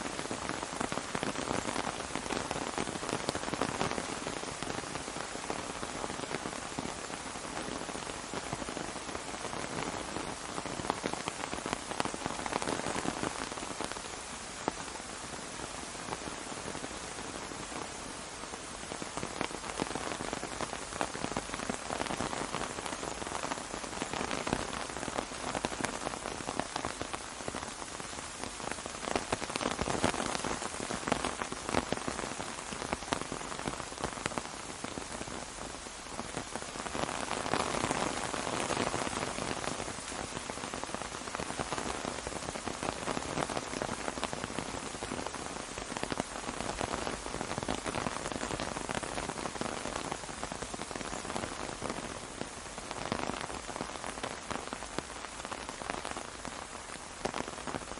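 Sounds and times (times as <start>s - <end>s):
rain falling on an umbrella: 0.0s - 57.9s.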